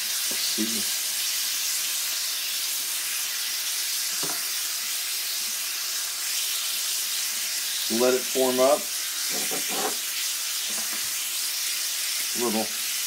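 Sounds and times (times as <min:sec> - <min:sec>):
bacon and egg sizzling on griddle: 0:00.0 - 0:13.0.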